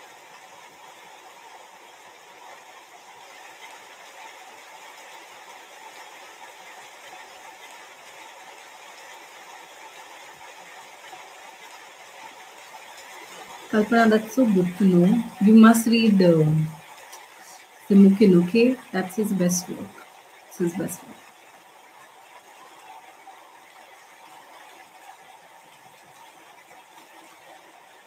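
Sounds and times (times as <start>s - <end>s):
room noise hiss: 0.0s - 27.8s.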